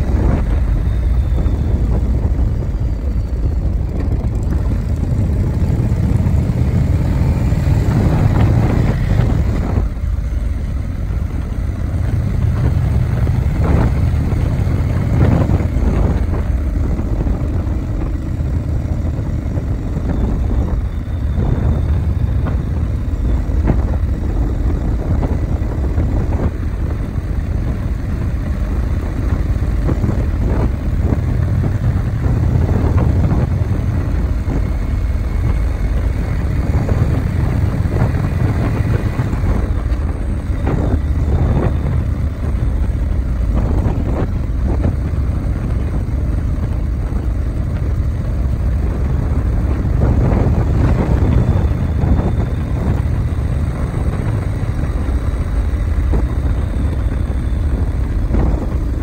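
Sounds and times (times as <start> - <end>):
vehicle low rumble: 0.0 - 59.0.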